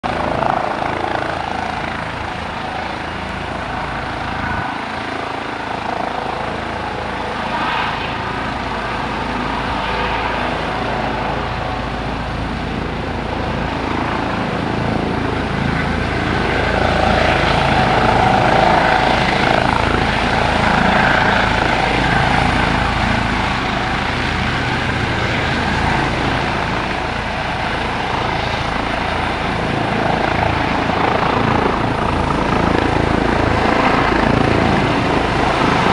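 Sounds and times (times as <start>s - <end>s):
helicopter rotor and turbine drone: 0.0s - 35.9s.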